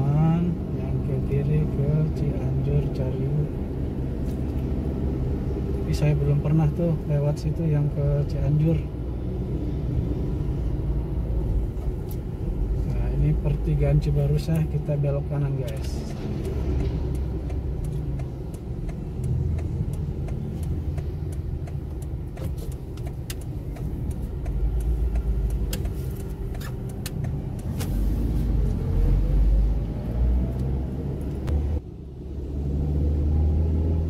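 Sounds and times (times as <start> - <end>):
car engine: 0.0 - 34.0
road rumble: 0.0 - 34.0.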